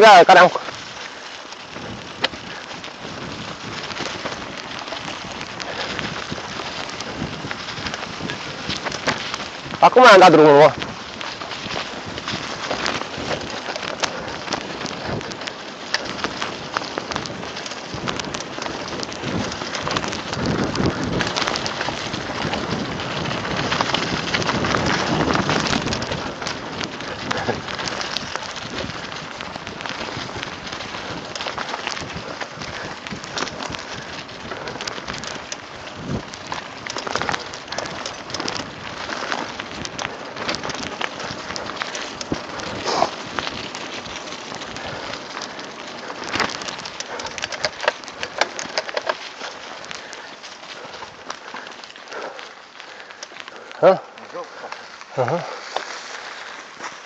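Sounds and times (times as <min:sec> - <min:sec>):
bike clicks and rattles: 0:00.0 - 0:57.0
bike tyres on leafy dirt trail: 0:00.0 - 0:57.0.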